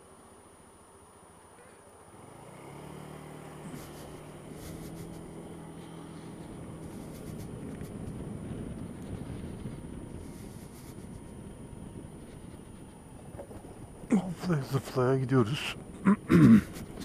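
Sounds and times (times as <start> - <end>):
scooter engine idling and pulling away: 0.1 - 17.0.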